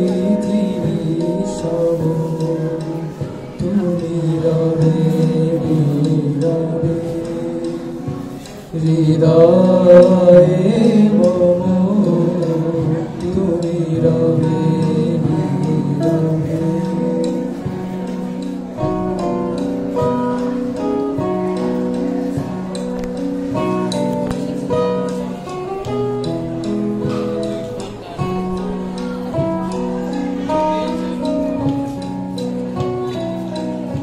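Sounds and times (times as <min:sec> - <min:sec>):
live band playing: 0:00.0 - 0:34.0
man singing: 0:00.0 - 0:34.0.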